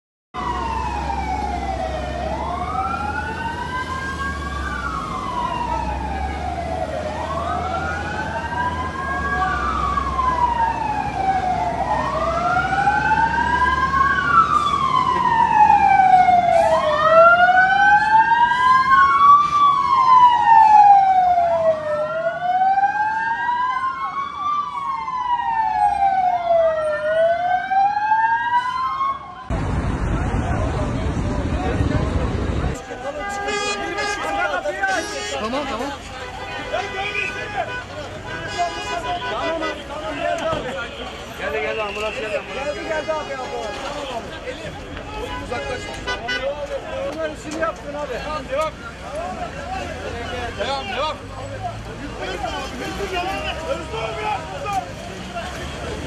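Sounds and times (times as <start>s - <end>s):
emergency sirens wailing: 0.4s - 56.0s
low traffic rumble: 0.4s - 56.0s.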